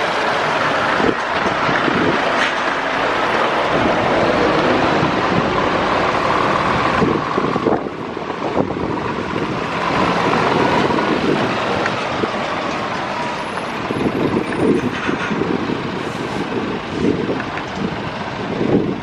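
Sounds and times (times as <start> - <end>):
lorries and road traffic: 0.0 - 19.0.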